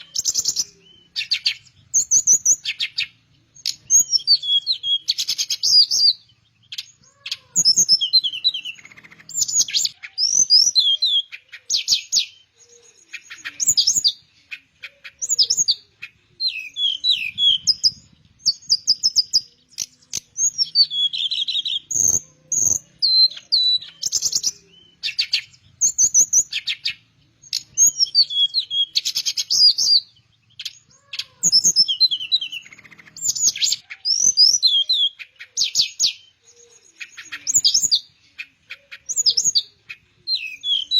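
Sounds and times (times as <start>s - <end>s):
flycatcher singing: 0.0s - 40.9s.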